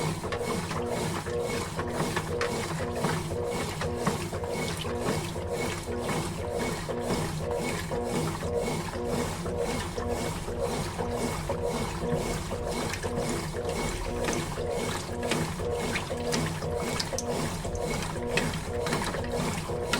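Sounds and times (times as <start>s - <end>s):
washing machine churning: 0.0s - 19.9s.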